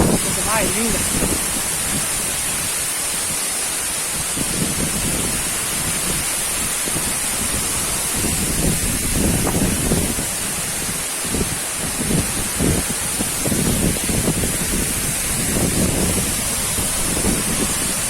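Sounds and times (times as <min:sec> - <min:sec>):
waterfall rushing: 0:00.0 - 0:18.0
wind buffeting microphone: 0:00.0 - 0:18.0.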